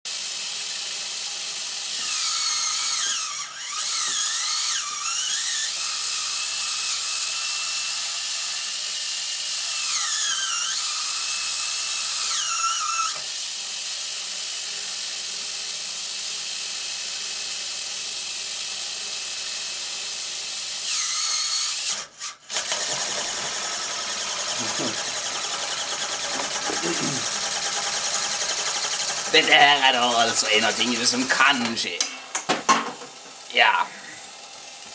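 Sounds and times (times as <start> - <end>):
small electric motor whining: 0.1 - 31.6.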